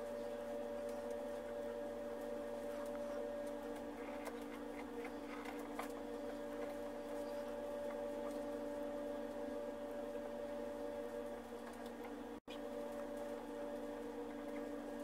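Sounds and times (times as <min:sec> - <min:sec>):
welding pen electrical hum: 0:00.0 - 0:15.0.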